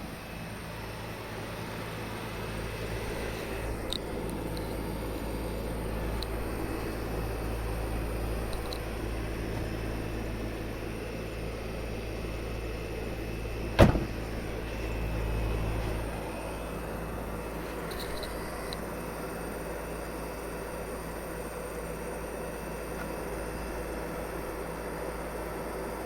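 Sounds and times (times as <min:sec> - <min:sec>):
heat pump humming: 0:00.0 - 0:26.0.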